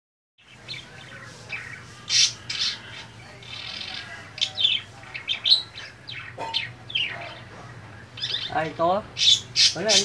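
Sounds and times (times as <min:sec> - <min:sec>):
small birds chirping: 0:00.4 - 0:10.0.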